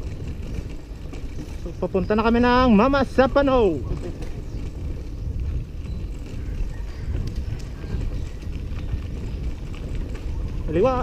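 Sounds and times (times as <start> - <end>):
bicycle rolling on dirt road: 0.0 - 11.0
wind rumbling on microphone: 0.0 - 11.0.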